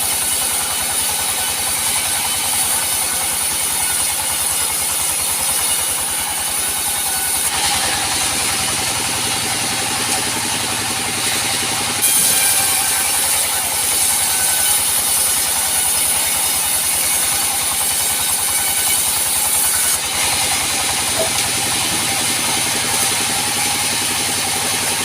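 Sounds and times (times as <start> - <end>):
high hissing saw cutting: 0.0 - 25.0
sawmill engine running: 0.0 - 25.0.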